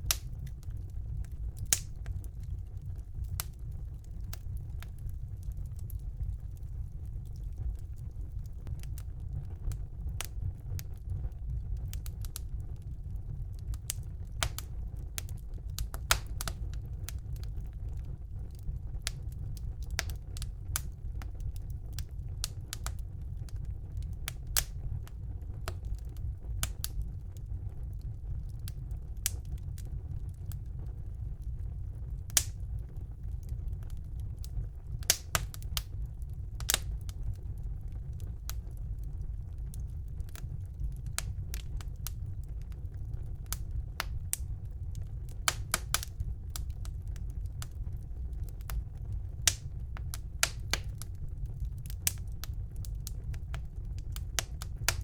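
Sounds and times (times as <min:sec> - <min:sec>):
fire crackling and popping: 0:00.0 - 0:55.0
wood fire rumbling: 0:00.0 - 0:55.0.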